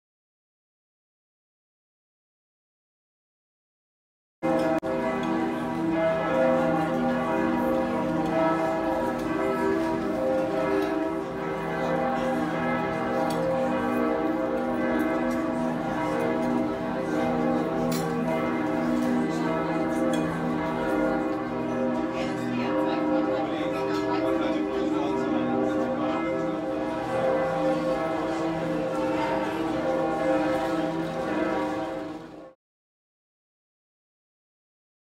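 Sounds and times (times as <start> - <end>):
church bells ringing in a peal: 4.4 - 32.6.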